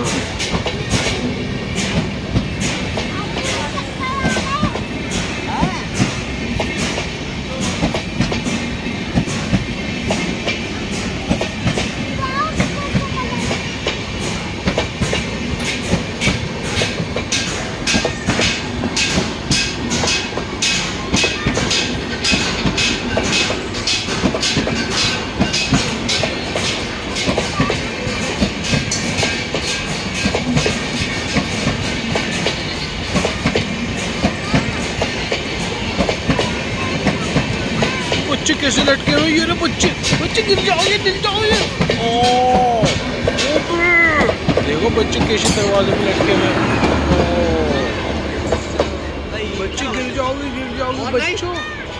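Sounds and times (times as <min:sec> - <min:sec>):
wheels clacking over rail joints: 0:00.0 - 0:51.7
train rumbling at speed: 0:00.0 - 0:51.9.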